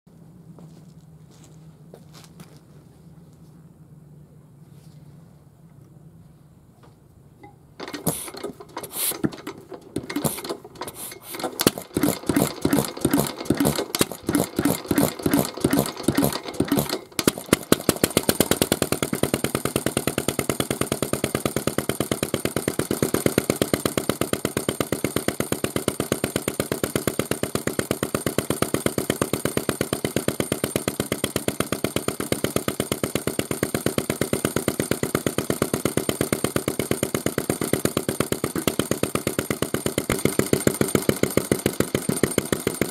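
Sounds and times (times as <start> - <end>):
engine starting and running: 7.4 - 42.9.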